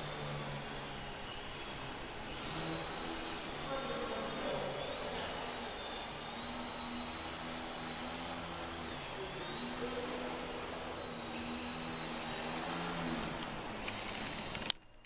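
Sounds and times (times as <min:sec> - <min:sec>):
model plane motor and propeller buzzing: 0:00.0 - 0:15.0.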